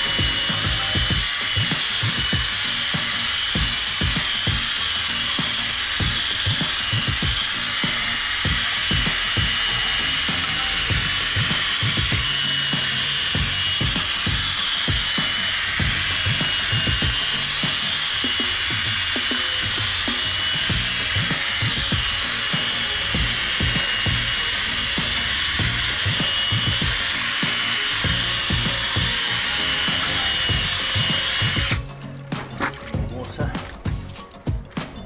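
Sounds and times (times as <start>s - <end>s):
electric drill sanding plastic: 0.0s - 31.8s.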